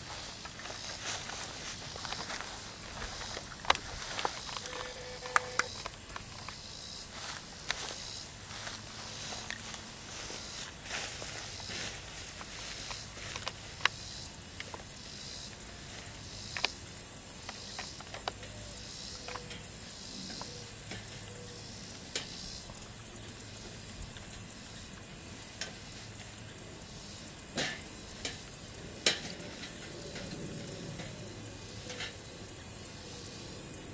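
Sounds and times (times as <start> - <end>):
steady hiss: 0.0 - 33.9.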